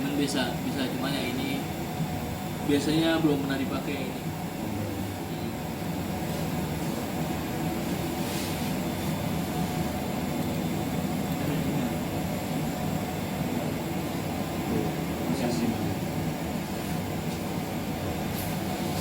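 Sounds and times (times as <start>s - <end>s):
airy ventilation noise: 0.0s - 19.0s
steady mechanical hum: 0.0s - 19.0s.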